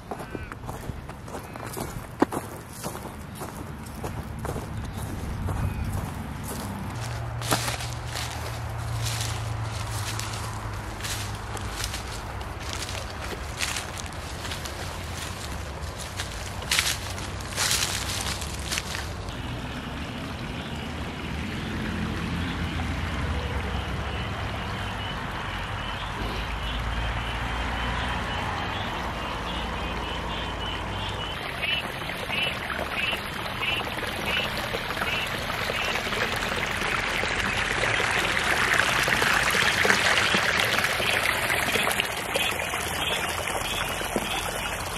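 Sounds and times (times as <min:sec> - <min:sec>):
creek water trickling: 0:00.0 - 0:44.9.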